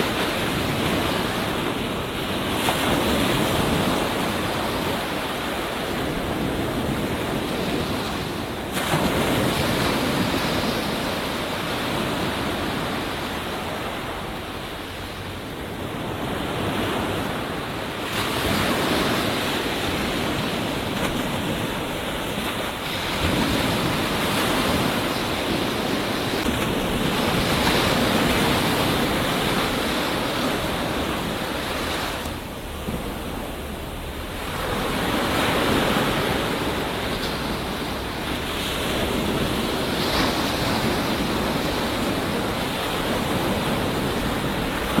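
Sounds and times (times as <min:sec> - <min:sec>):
surf rushing on beach: 0:00.0 - 0:45.0
waves crashing: 0:00.0 - 0:45.0.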